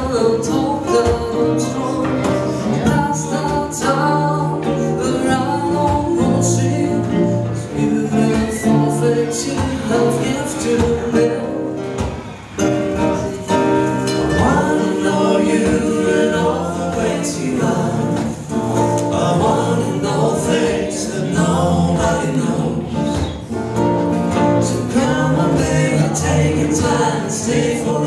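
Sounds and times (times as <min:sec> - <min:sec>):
voices singing in harmony: 0:00.0 - 0:12.2, 0:12.9 - 0:28.0
acoustic guitars and ukulele: 0:00.0 - 0:28.0.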